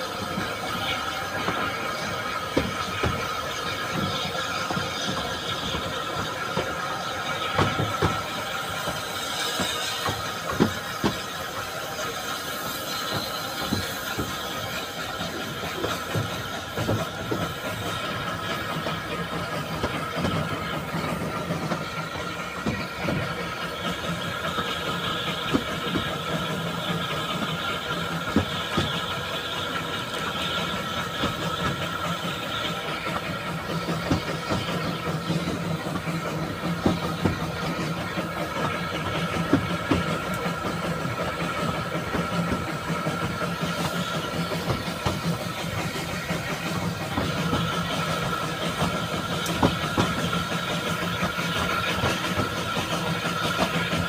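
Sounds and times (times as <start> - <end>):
train running noise: 0.0 - 54.0
train wheels squealing on rails: 0.0 - 54.0
wheels knocking on track: 0.0 - 54.0.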